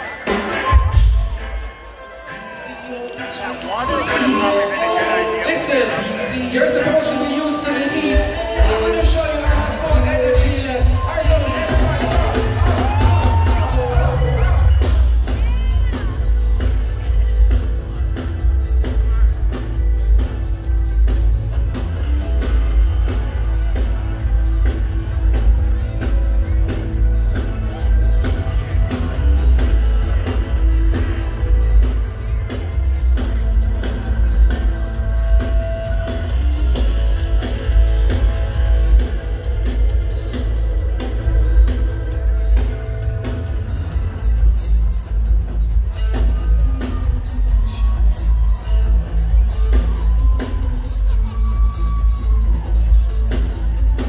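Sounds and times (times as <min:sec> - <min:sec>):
live reggae band: 0:00.0 - 0:54.0
heavy bass line: 0:04.9 - 0:54.0.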